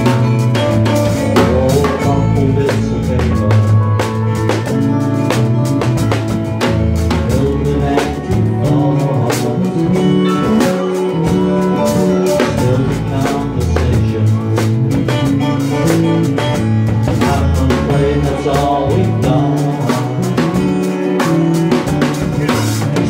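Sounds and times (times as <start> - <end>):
bass guitar: 0.0 - 23.0
drum kit with cymbals: 0.0 - 23.0
guitar: 0.0 - 23.0.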